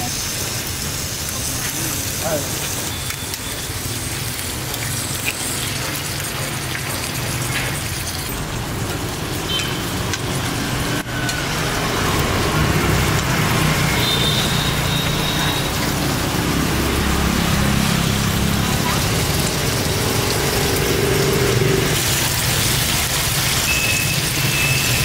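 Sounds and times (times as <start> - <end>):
steak sizzling on hot iron: 0.0 - 25.0
traffic engine rumble: 0.0 - 25.0.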